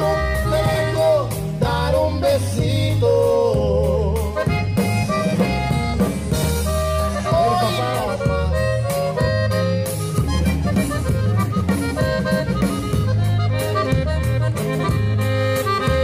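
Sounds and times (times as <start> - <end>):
accordion melody: 0.0 - 16.0
guitars: 0.0 - 16.0
repeating bass line: 0.0 - 16.0.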